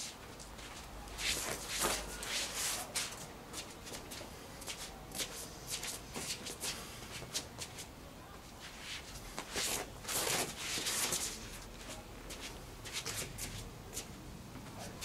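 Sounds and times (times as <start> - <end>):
shoes scuffing on stone paving: 0.0 - 7.9, 8.6 - 14.1.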